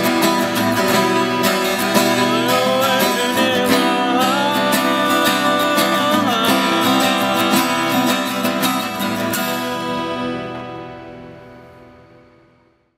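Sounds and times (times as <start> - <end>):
acoustic guitars playing folk song: 0.0 - 12.9.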